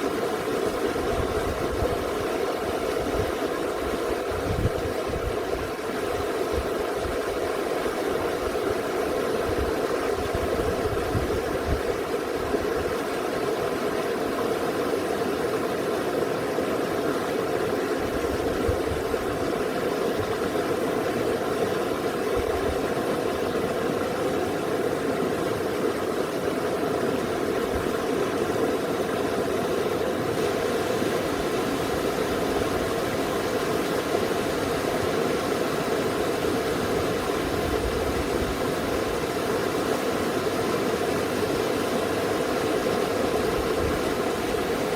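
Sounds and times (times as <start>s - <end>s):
river stream rushing: 0.0s - 44.9s.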